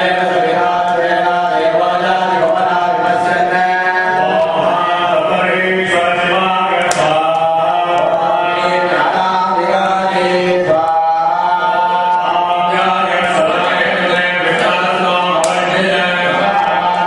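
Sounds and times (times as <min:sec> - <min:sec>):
men chanting mantras: 0:00.0 - 0:17.0.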